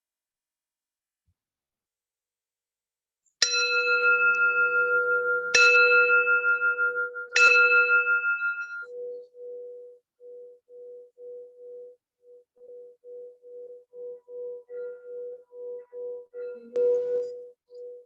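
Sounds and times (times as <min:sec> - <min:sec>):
singing bowl ringing: 0:03.4 - 0:18.0.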